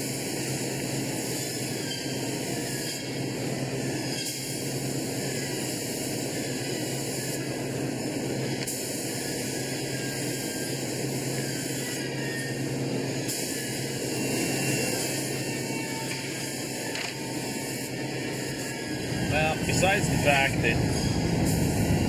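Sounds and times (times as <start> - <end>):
spray gun hissing: 0.0 - 22.0.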